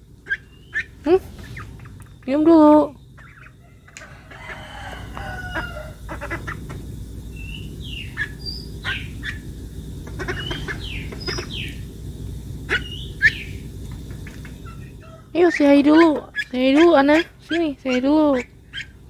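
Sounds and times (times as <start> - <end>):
duckling peeping: 0.2 - 11.9, 12.6 - 19.0.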